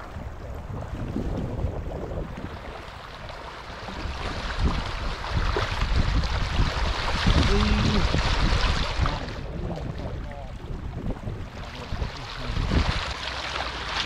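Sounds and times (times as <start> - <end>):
water sloshing and splashing: 0.0 - 14.0
wind on microphone: 0.0 - 14.0.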